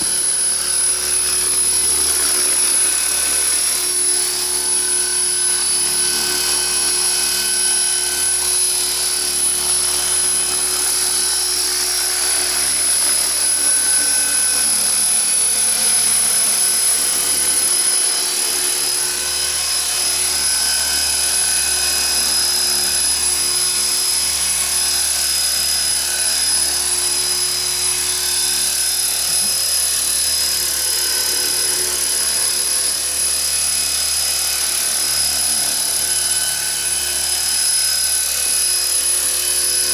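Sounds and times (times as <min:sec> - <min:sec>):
model helicopter hovering: 0:00.0 - 0:39.9.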